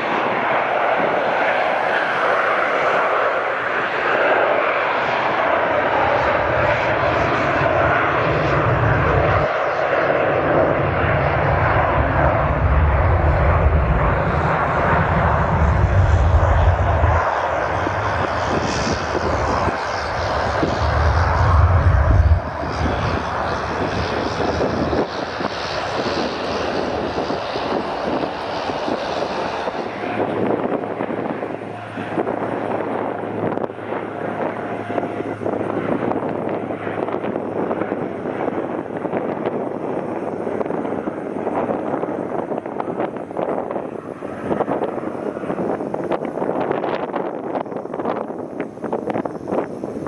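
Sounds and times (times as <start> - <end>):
jet engines running loudly: 0.0 - 50.0.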